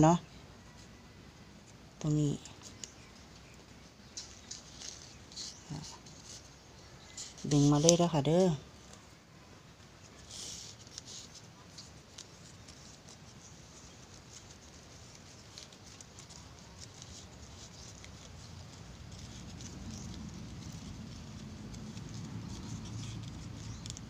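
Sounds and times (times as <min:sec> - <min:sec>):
leaf strips rustling and crackling: 0:00.0 - 0:24.0.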